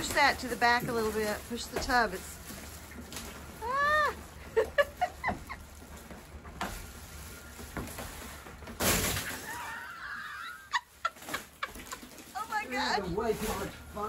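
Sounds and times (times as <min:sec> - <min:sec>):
water sloshing and spilling: 0:00.0 - 0:14.0.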